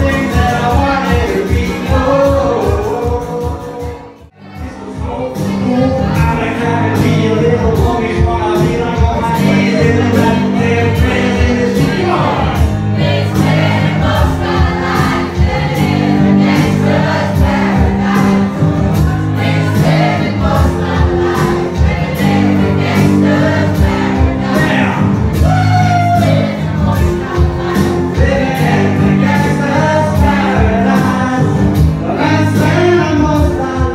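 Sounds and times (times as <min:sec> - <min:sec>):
man singing: 0:00.0 - 0:12.8, 0:15.8 - 0:33.9
acoustic guitar strumming: 0:00.0 - 0:33.9.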